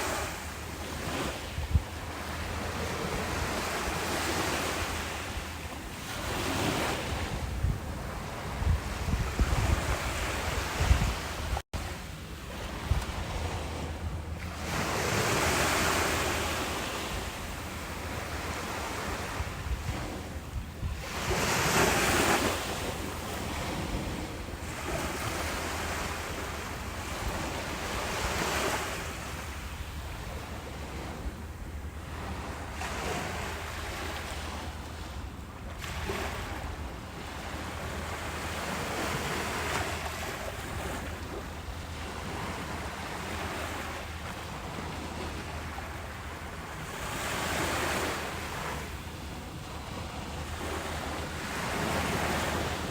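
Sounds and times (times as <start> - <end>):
ocean surf washing up beach: 0.0 - 52.9.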